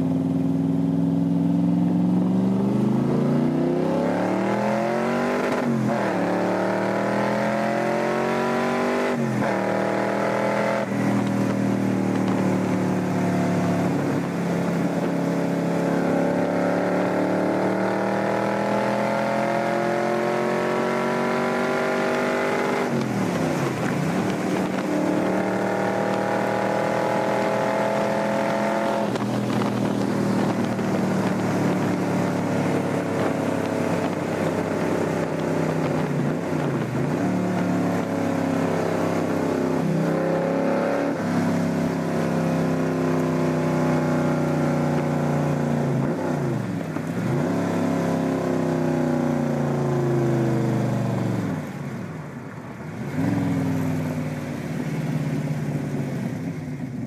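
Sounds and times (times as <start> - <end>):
car engine revving: 0.0 - 51.8, 52.9 - 56.4.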